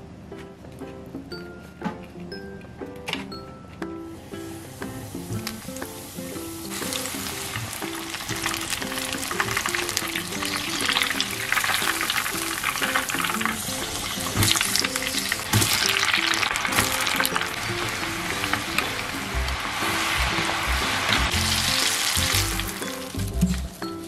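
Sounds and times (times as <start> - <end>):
light background music: 0.0 - 24.0
food sizzling in hot oil: 4.3 - 24.0.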